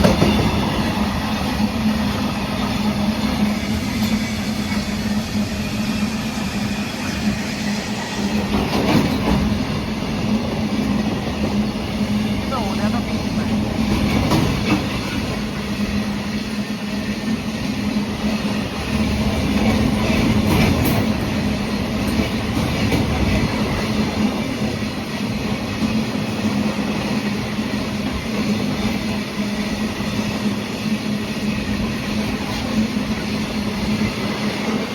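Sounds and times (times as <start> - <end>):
freight train rumbling: 0.0 - 34.9
train wheel clatter: 0.0 - 34.9.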